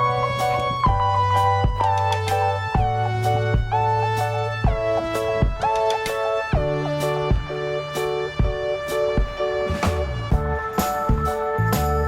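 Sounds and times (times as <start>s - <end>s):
sustained instrumental notes: 0.0s - 11.6s
steady beat: 0.0s - 12.0s.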